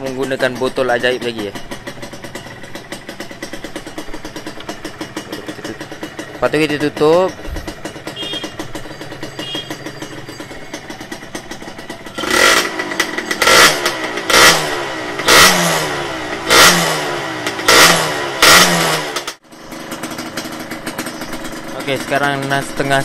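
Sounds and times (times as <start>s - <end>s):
engine revving: 0.0s - 23.0s
motorcycle engine idling: 0.0s - 23.0s.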